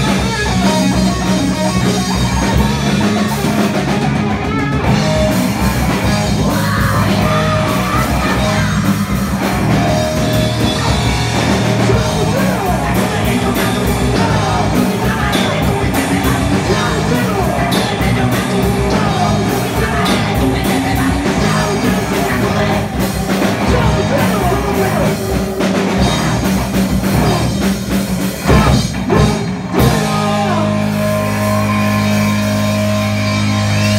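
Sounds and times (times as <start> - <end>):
rock band playing hard rock: 0.0 - 33.9.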